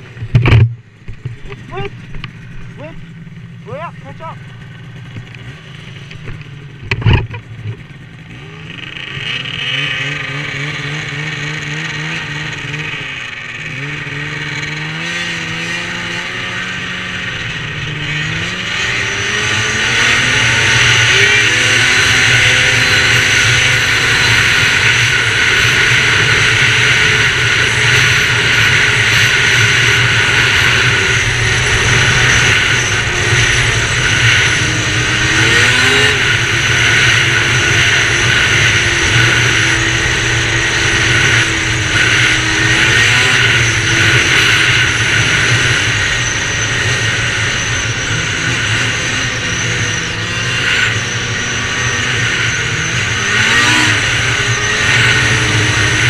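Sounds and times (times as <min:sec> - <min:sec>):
rushing wind: 0:00.0 - 0:56.0
snowmobile engine accelerating: 0:00.0 - 0:56.0.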